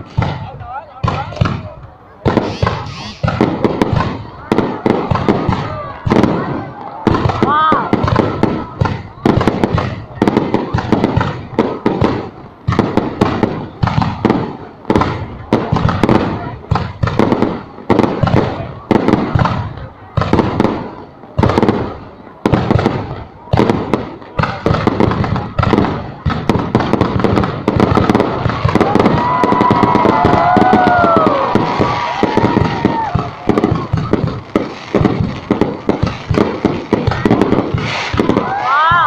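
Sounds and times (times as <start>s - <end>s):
fireworks whistling: 0.0s - 19.6s, 20.3s - 39.0s
crackling fireworks: 0.0s - 39.0s
fireworks bangs: 0.0s - 39.0s.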